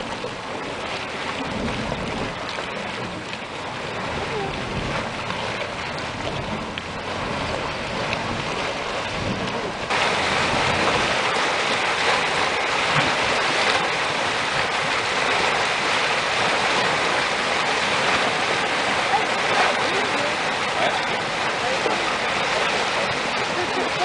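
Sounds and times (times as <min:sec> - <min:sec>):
hot spring water churning: 0:00.0 - 0:24.0.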